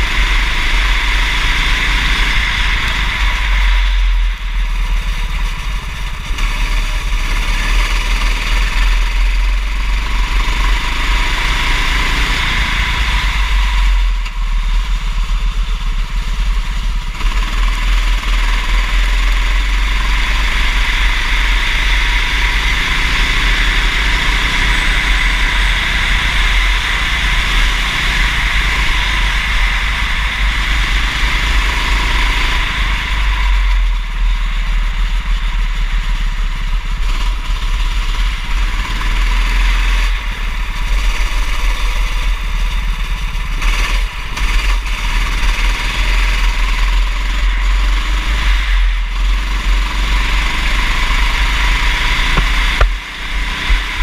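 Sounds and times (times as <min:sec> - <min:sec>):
kart engine racing: 0:00.0 - 0:54.0
steady rush of noise: 0:00.0 - 0:54.0.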